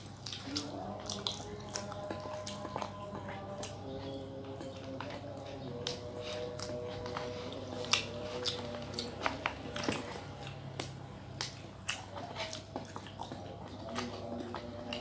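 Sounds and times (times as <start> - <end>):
biting and chewing: 0.0 - 15.0
faint background music: 0.0 - 15.0.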